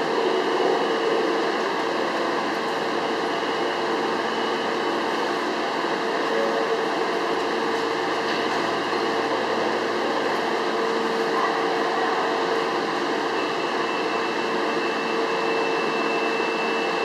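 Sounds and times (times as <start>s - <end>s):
subway train humming and hissing: 0.0s - 17.0s.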